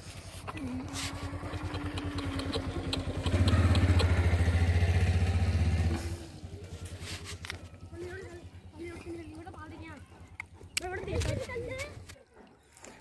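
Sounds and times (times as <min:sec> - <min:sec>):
engine running with pulsing beat: 0:00.4 - 0:11.1.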